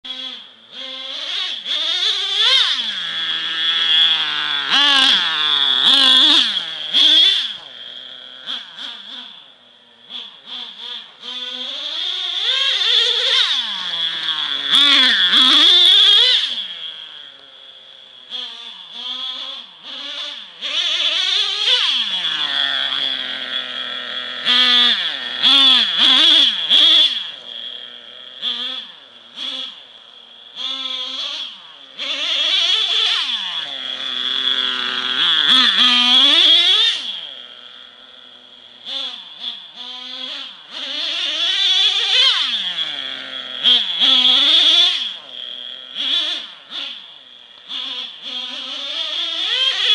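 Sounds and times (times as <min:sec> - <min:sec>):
model truck nitro engine revving: 0:00.0 - 0:49.9.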